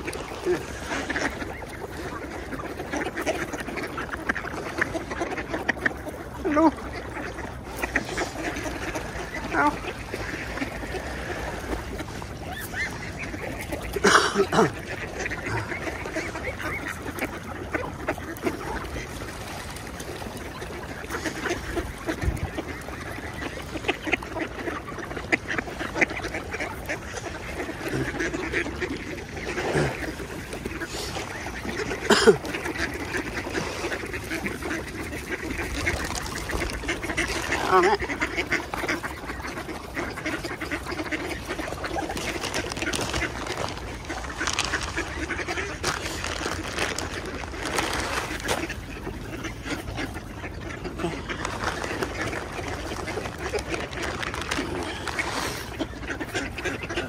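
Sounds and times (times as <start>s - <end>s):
ducks quacking: 0.0s - 57.0s.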